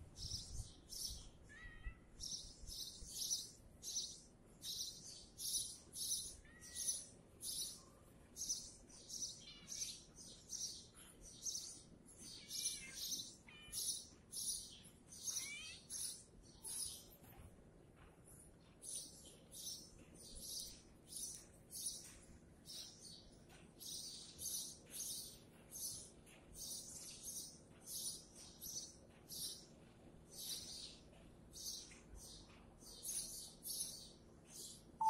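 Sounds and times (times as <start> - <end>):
birds chirping: 0.1 - 35.0.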